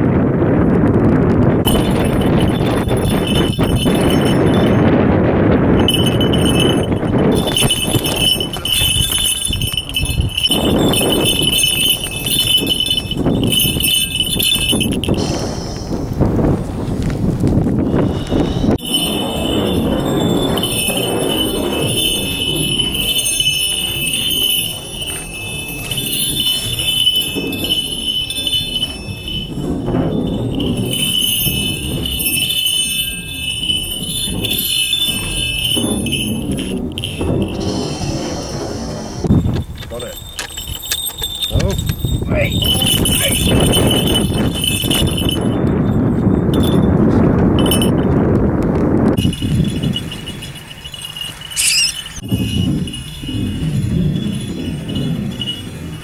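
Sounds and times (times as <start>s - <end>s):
wind buffeting microphone: 0.0s - 56.0s
bell ringing: 1.7s - 16.8s, 17.8s - 48.1s, 49.2s - 56.0s.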